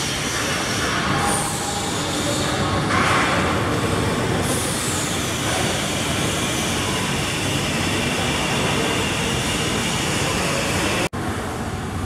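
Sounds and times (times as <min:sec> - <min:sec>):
factory machinery rumble and hiss: 0:00.0 - 0:12.0.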